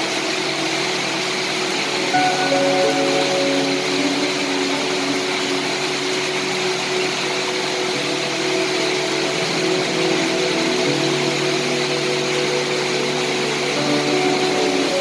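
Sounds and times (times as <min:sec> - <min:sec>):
rain hiss: 0:00.0 - 0:15.0
soft background music: 0:00.0 - 0:15.0.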